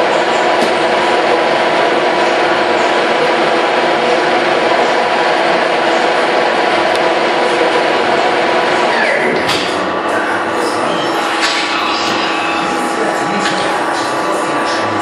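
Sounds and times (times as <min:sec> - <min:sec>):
lathe running: 0:00.0 - 0:15.0.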